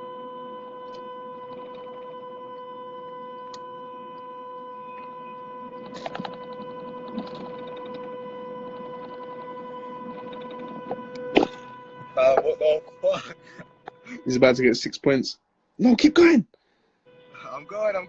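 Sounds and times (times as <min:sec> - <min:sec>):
car horn steady tone: 0:00.0 - 0:16.4, 0:17.0 - 0:18.0.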